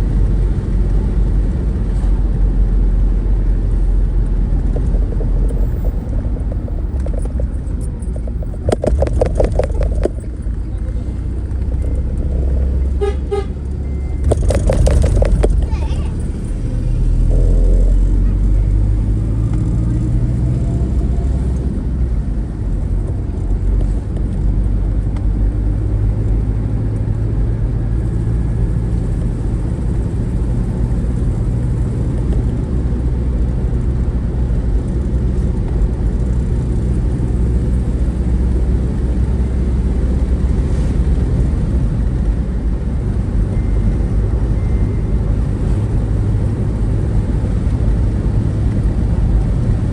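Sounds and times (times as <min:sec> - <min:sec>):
vehicle engine and road noise: 0:00.0 - 0:49.9.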